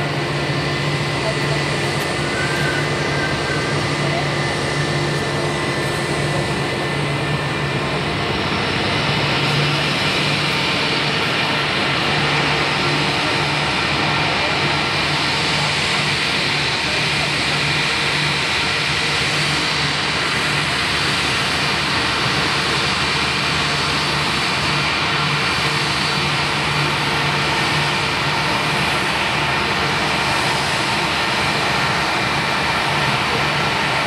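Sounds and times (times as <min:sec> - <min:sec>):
jet engines whining at taxi: 0:00.0 - 0:34.0.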